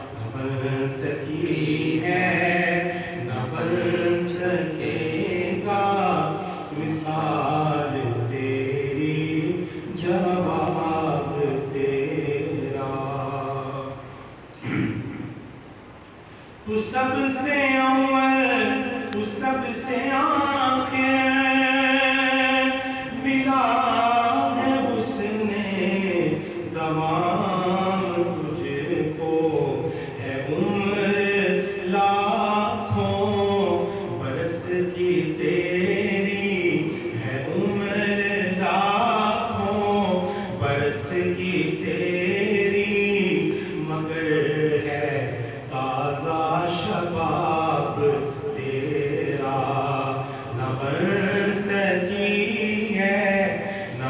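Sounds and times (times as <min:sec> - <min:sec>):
man singing unaccompanied: 0:00.0 - 0:14.8, 0:16.6 - 0:54.0.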